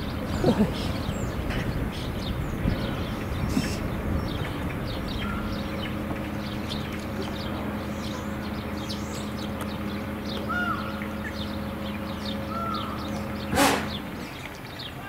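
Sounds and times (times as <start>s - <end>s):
steady low hum: 0.0s - 14.9s
harsh bird call: 0.0s - 15.0s
small birds chirping: 0.0s - 15.0s
whistled bird calls: 0.0s - 15.0s.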